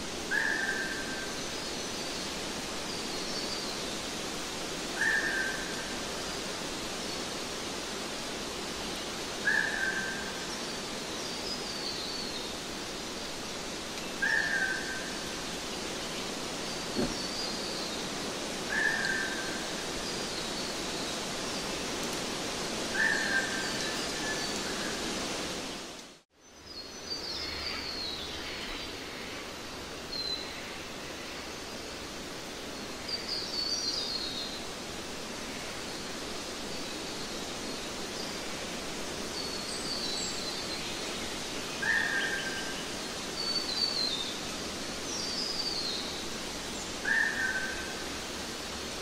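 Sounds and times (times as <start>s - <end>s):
hiss-like outdoor ambience: 0.0s - 49.0s.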